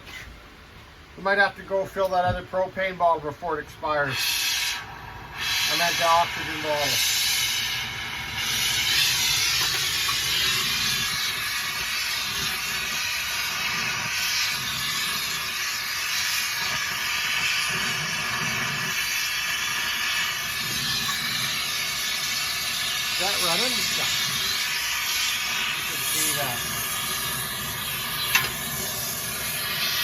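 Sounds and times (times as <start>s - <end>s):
torch hissing and rumbling: 1.1s - 30.0s.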